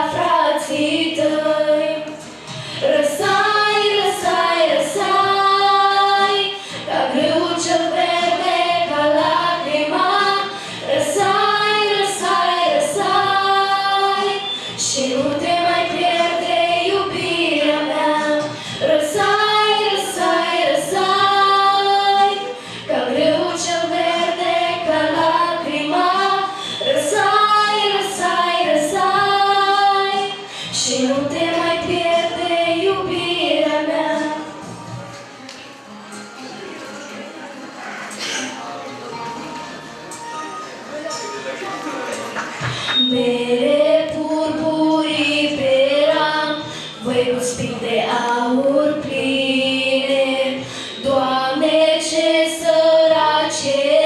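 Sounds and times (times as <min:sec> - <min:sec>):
girls singing into microphones: 0:00.0 - 0:35.2, 0:42.4 - 0:54.0.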